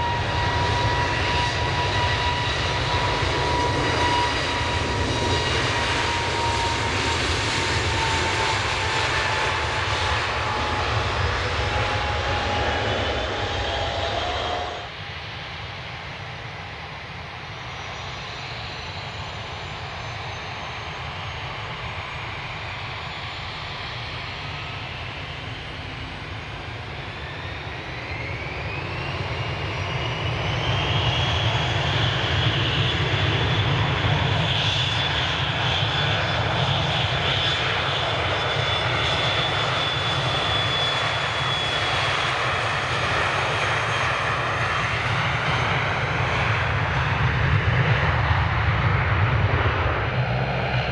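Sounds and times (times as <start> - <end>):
jet engine rumble: 0.0 - 50.9
jet engines spooling up with whine: 0.0 - 50.9.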